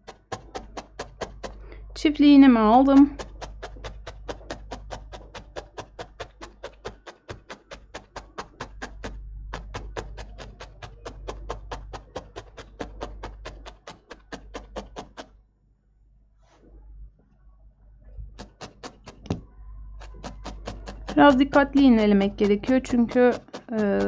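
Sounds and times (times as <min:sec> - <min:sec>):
felting needle stabbing wool: 0:00.0 - 0:15.3, 0:18.3 - 0:24.0.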